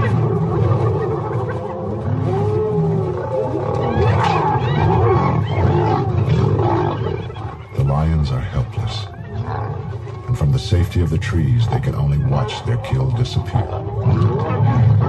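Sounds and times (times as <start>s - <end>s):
hyenas calling: 0.0s - 15.0s
lions growling: 0.0s - 15.0s.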